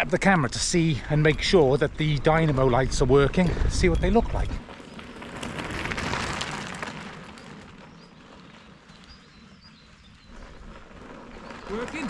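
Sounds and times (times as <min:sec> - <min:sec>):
bicycle tyres rolling: 0:00.0 - 0:12.0.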